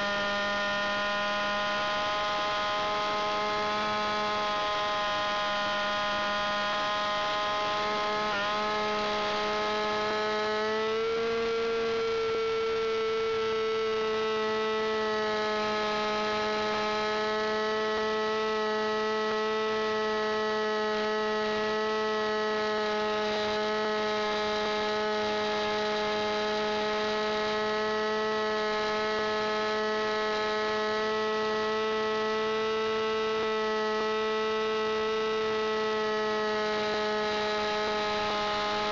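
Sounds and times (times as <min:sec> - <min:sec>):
model plane engine running: 0:00.0 - 0:38.9.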